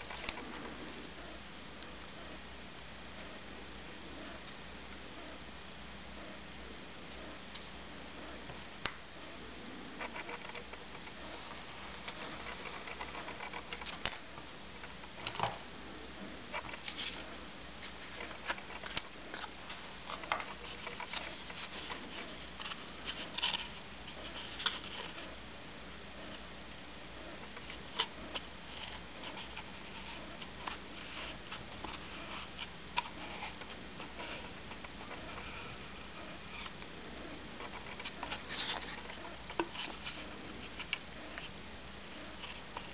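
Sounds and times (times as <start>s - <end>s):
high-pitched two-tone whine: 0.0s - 42.9s.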